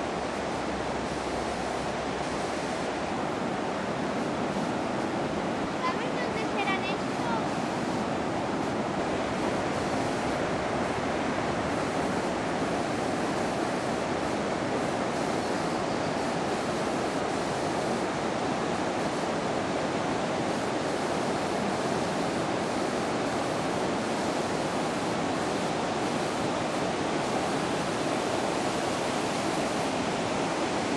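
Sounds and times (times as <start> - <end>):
rushing river water: 0.0 - 30.9.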